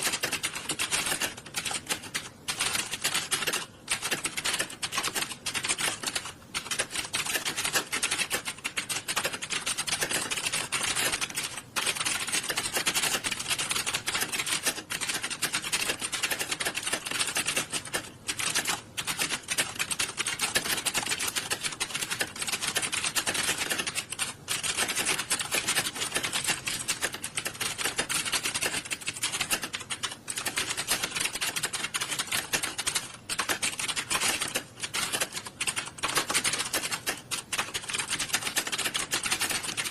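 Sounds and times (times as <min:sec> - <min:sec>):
many keyboards typing: 0:00.0 - 0:39.9.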